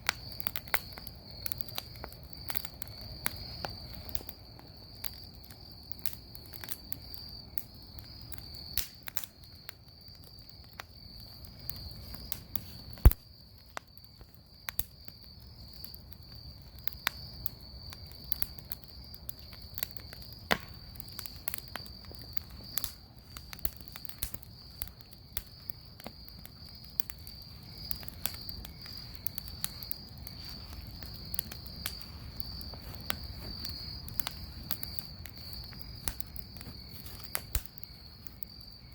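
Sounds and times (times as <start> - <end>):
bonfire crackling and popping: 0.0 - 38.9
insects chirring: 0.0 - 38.9.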